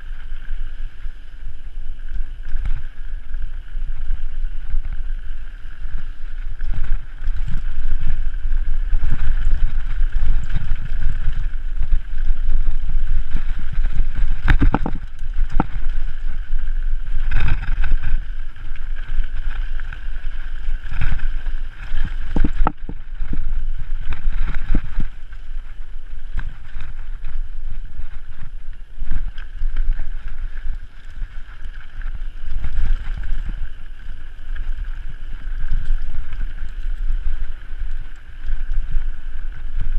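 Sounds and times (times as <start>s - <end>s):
bike rattling over bumps: 0.0s - 39.9s
bike tyres rumbling on dirt: 0.0s - 39.9s
wind buffeting on microphone: 0.0s - 39.9s.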